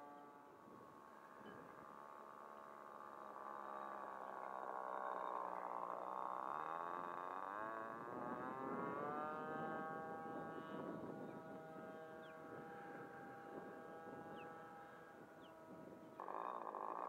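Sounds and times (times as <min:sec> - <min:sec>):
model airplane engine droning: 0:00.0 - 0:17.0.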